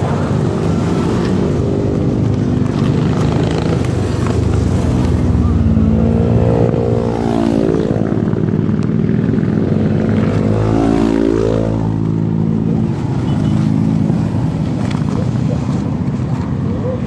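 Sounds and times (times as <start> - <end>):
motorcycle engines rumbling: 0.0 - 17.0.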